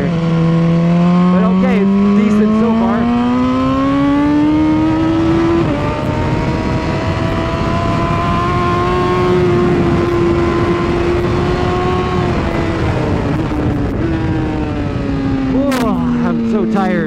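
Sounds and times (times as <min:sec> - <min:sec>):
motorcycle engine revving high: 0:00.0 - 0:17.0
wind rushing over microphone: 0:00.0 - 0:17.0.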